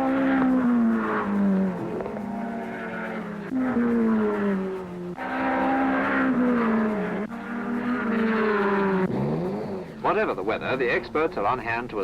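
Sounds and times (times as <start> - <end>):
racing car engines passing: 0.0 - 12.0.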